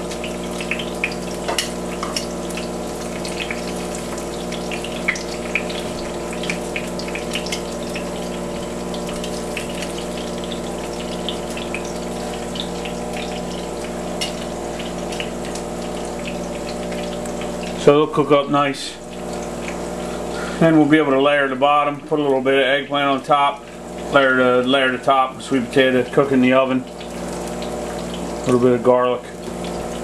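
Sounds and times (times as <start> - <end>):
steady hum: 0.0 - 30.0
sweet potato slices frying: 0.0 - 30.0.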